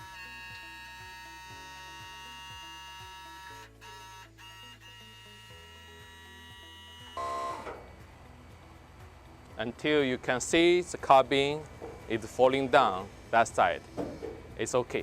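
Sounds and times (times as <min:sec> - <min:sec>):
hydraulic pump humming: 0:00.0 - 0:09.2, 0:11.2 - 0:15.0.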